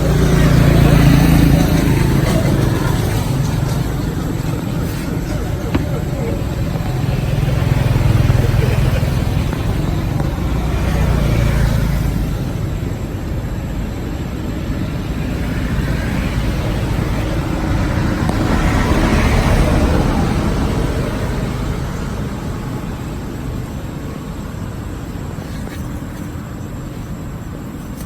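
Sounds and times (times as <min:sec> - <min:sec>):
road traffic rumble: 0:00.0 - 0:28.0
vehicles passing: 0:00.0 - 0:28.0.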